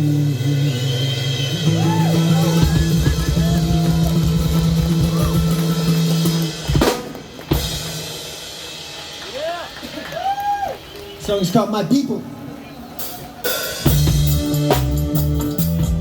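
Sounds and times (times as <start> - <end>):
rolling drum fills: 0.0 - 10.6, 13.0 - 16.0.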